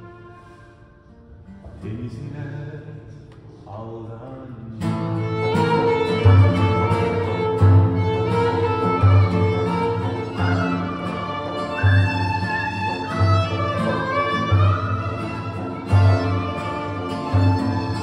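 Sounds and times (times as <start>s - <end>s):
violin: 0.0s - 1.3s, 4.8s - 18.0s
acoustic guitar strumming: 0.0s - 3.8s, 4.6s - 18.0s.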